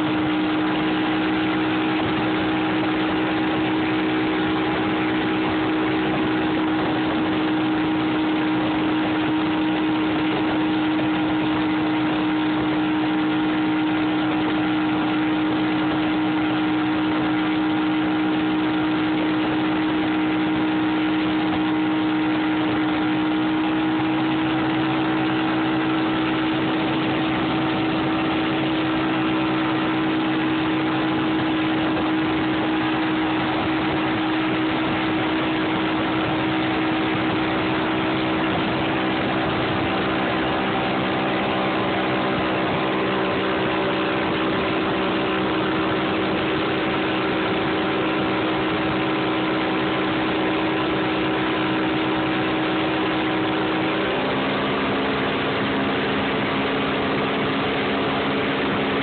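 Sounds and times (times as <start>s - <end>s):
outboard motor running: 0.0s - 59.0s
rushing water of boat wake: 0.0s - 59.0s.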